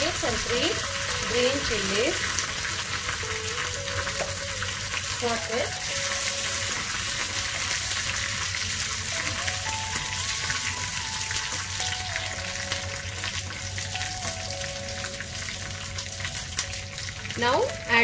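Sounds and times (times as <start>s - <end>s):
leaves sizzling in hot oil: 0.0s - 18.0s.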